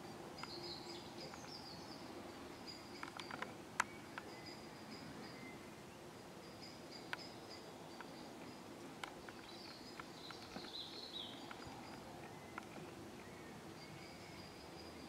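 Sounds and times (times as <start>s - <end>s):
patter of small ticks: 0.4s - 2.0s, 2.6s - 5.1s, 6.6s - 15.0s.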